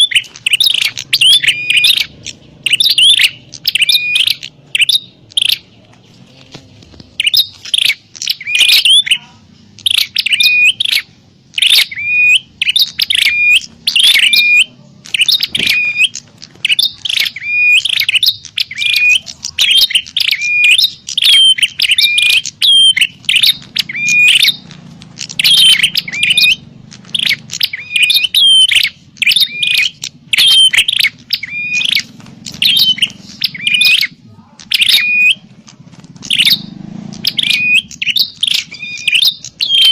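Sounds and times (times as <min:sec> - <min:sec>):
bird sharp chirping calls: 0:00.0 - 0:39.9.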